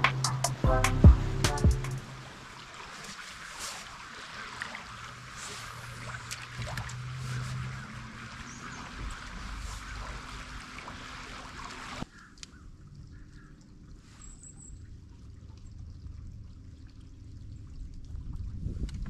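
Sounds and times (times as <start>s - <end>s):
boat engine rumble: 0.0s - 19.0s
water rushing along boat hull: 0.0s - 19.0s
wind: 0.0s - 19.0s.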